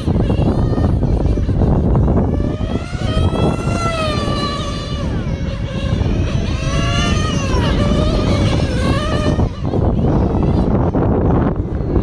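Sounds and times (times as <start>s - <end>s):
rc car engine revving: 0.0s - 12.0s
wind noise on microphone: 0.0s - 12.0s.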